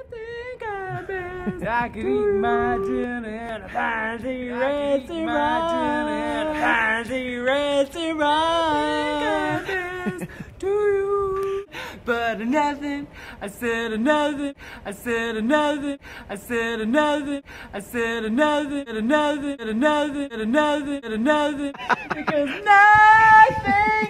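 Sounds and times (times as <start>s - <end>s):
woman singing unaccompanied: 0.0s - 24.0s.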